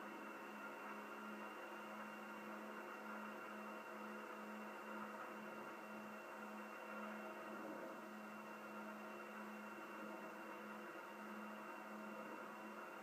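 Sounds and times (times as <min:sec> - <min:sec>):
piston aircraft engine droning: 0:00.0 - 0:13.0.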